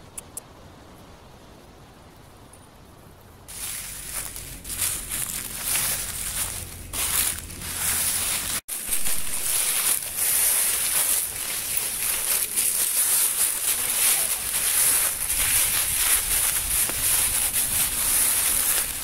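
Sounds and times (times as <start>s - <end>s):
footsteps crunching through dry leaves: 3.5s - 19.0s.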